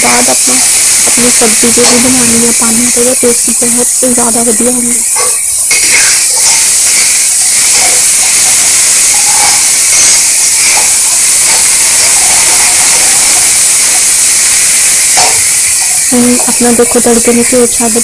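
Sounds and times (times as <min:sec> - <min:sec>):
masala sizzling in hot fat: 0:00.0 - 0:18.0
spatula stirring: 0:00.1 - 0:13.2, 0:14.1 - 0:18.0.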